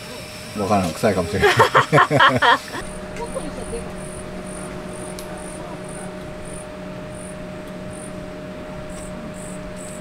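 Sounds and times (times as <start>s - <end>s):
steady low hum: 0.0s - 10.0s
insect chirping: 1.4s - 10.0s.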